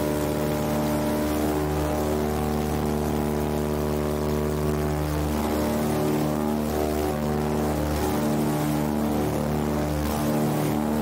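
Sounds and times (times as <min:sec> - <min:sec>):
aircraft radial engines running: 0:00.0 - 0:11.0.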